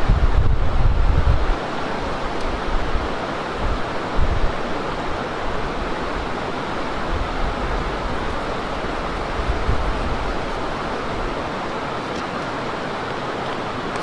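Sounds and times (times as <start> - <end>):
wind buffeting microphone: 0.0 - 12.0
water rushing: 0.0 - 14.0.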